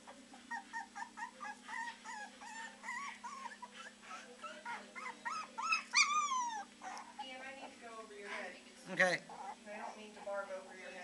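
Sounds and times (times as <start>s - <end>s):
puppies baying: 0.0s - 7.8s, 9.2s - 10.9s.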